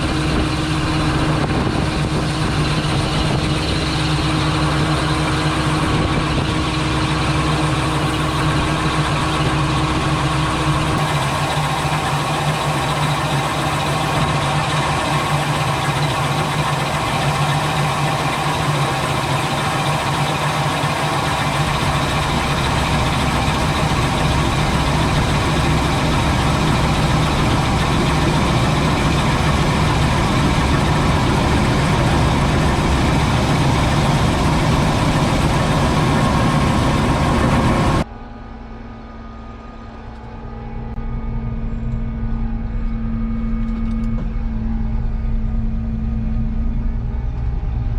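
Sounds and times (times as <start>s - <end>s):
combine harvester running: 0.0s - 47.9s
steady higher tone: 2.3s - 47.9s.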